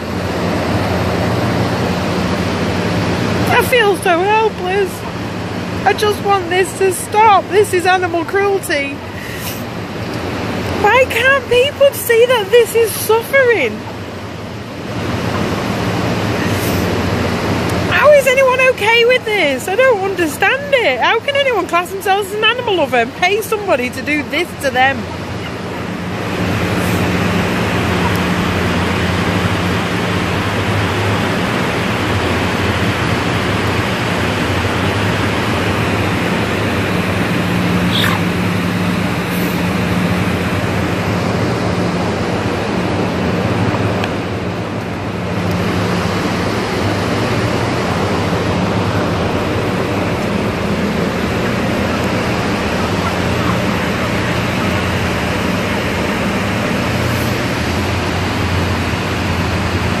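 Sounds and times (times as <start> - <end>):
constant low hum: 0.0 - 60.0
machinery noise: 0.0 - 60.0.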